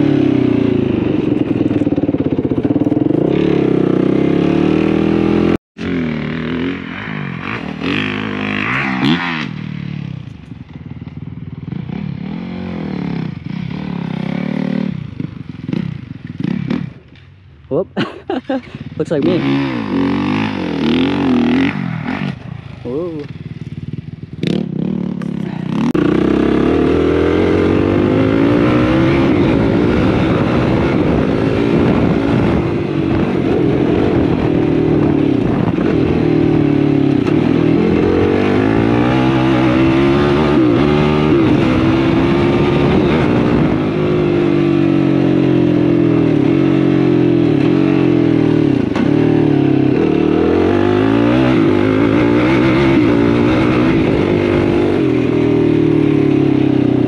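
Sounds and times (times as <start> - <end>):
quad engine revving: 0.0 - 10.0, 18.6 - 23.3, 24.4 - 57.0.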